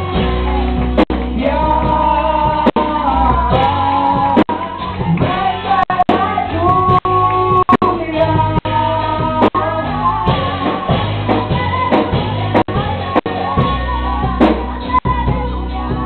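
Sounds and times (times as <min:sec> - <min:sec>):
worship singing over a band: 0:00.0 - 0:16.0.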